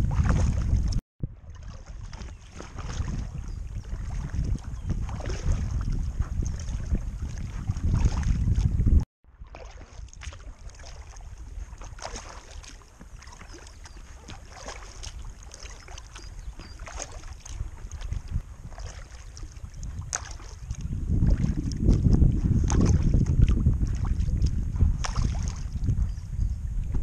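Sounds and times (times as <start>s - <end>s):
paddle splashes and drips: 0.0s - 25.9s
wind rumble on microphone: 0.0s - 27.0s.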